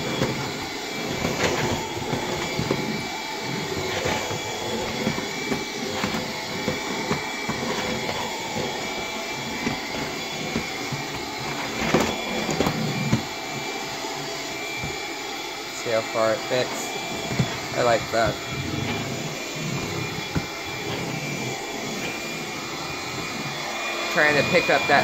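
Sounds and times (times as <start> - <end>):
stick vacuum motor whining: 0.0 - 25.0.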